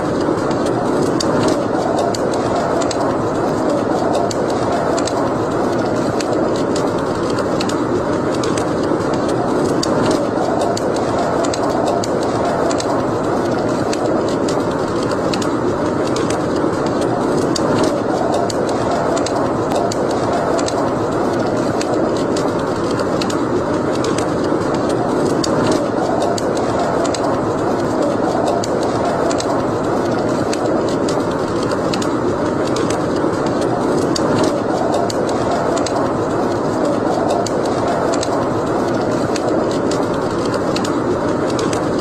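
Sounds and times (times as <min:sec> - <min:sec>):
steady rushing noise: 0:00.0 - 0:42.0
wood fire crackling: 0:00.0 - 0:42.0.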